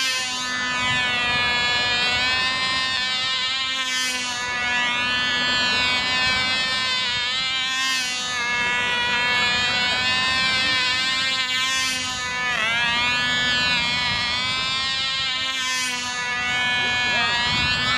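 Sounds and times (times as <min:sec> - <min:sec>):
model plane engine whining: 0:00.0 - 0:17.9.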